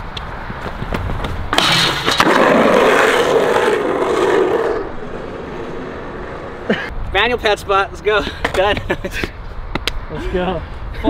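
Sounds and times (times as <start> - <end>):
skateboard wheels rolling on pavement: 0.0 - 10.6.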